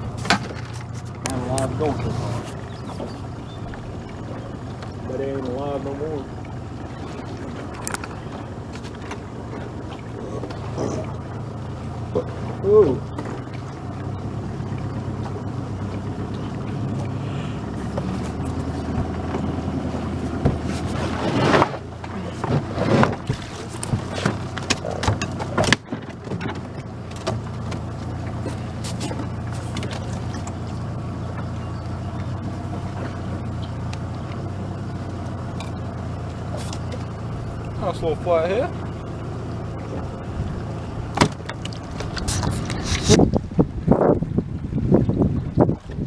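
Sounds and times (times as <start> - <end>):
boat motor humming: 0.0 - 46.0.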